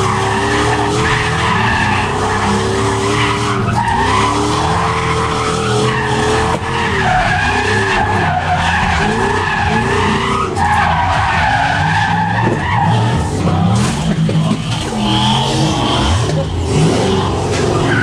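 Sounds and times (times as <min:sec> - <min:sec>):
car engine under load: 0:00.0 - 0:18.0
tires squealing: 0:00.0 - 0:18.0.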